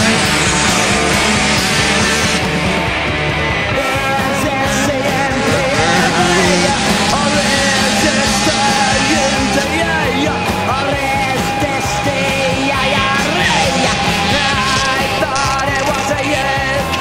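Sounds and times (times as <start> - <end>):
loud rock music with vocals: 0.0 - 17.0.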